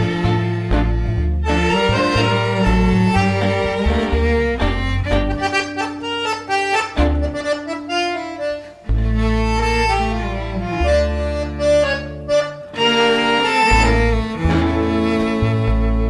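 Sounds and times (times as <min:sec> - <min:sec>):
instrumental music with deep bass: 0:00.0 - 0:16.0.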